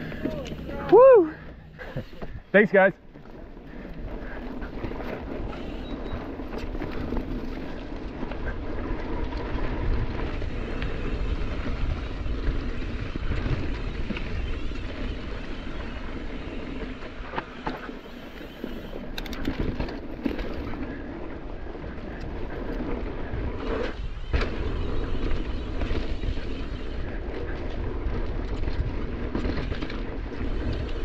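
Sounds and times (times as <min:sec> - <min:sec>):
bike clicks and rattles: 0:00.0 - 0:31.0
tyres on dirt trail: 0:00.0 - 0:31.0
wind rumble: 0:00.0 - 0:31.0.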